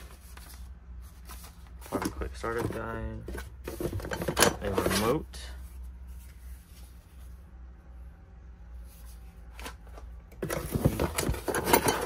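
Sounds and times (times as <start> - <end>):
rummaging through cardboard: 0.0 - 7.4, 8.8 - 12.0
low steady hum: 0.0 - 12.0.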